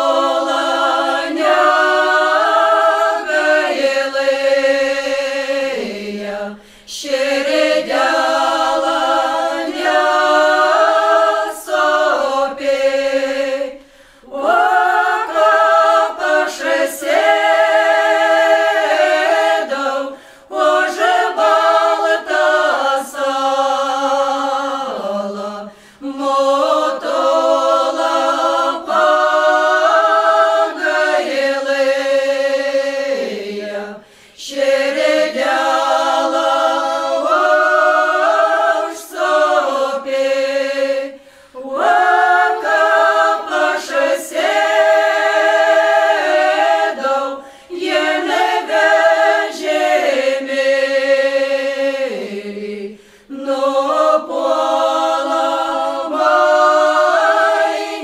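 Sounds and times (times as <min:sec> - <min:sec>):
unaccompanied choir singing: 0:00.0 - 0:58.0.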